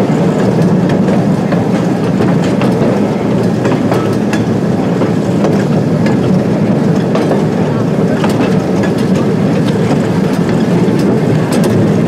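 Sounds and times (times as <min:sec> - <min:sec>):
train wheels rumbling on rail: 0:00.0 - 0:12.0
wheels clicking over rail joints: 0:00.0 - 0:12.0.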